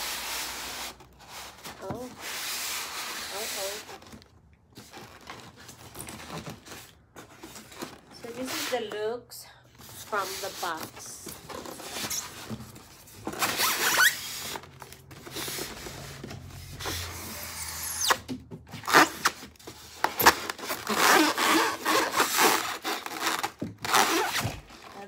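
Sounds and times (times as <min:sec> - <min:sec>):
styrofoam squeaking: 0:00.0 - 0:09.0, 0:09.9 - 0:25.0
cardboard scraping: 0:00.0 - 0:09.2, 0:09.8 - 0:25.0.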